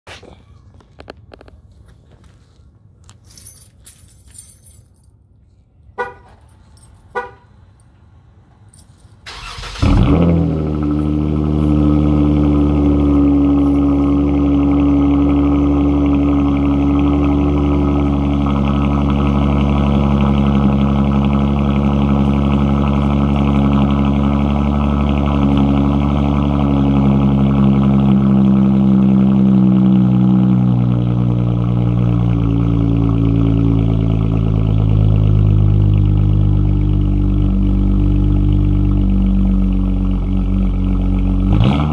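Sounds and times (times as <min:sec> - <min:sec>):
car engine starting and idling: 0:05.9 - 0:41.9.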